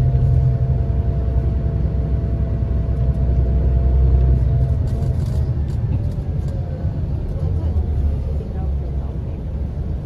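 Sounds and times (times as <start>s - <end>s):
coach engine and road rumble: 0.0s - 10.0s.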